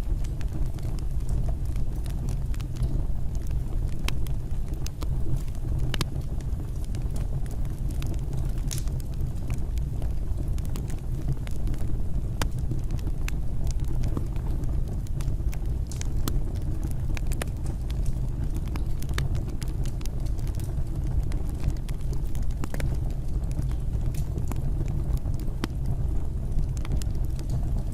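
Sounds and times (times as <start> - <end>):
fireplace fire burning: 0.0 - 27.9.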